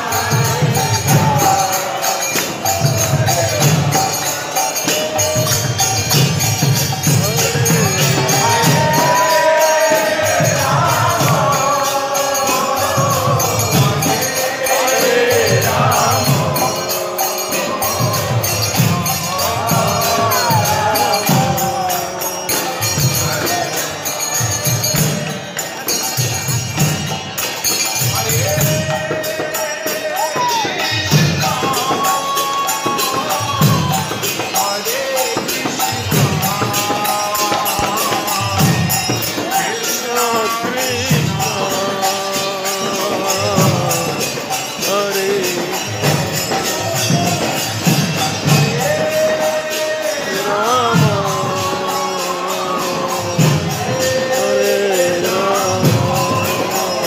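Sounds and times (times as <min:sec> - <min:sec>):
drums: 0:00.0 - 0:57.0
hand cymbals ringing: 0:00.0 - 0:57.0
voices singing a chant: 0:00.0 - 0:57.0.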